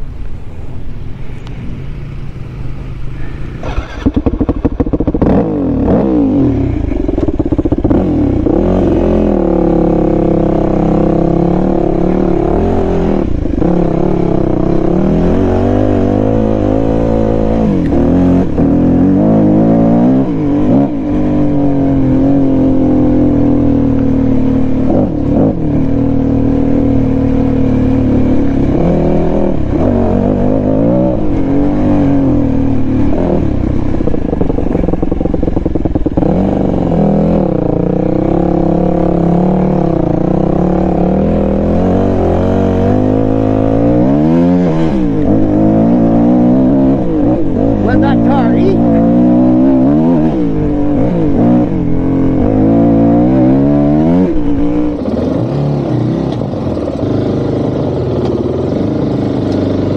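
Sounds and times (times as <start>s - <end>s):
motorcycle engine revving: 0.6s - 59.9s.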